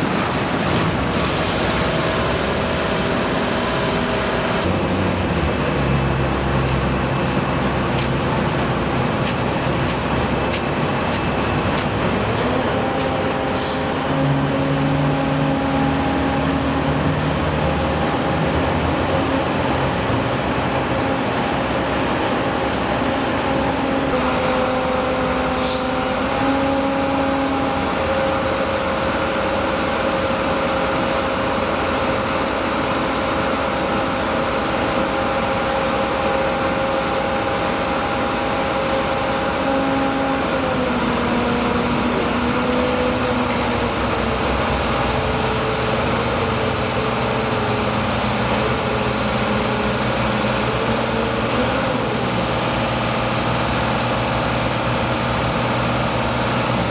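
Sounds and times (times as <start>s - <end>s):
heavy engine humming: 0.0s - 56.9s.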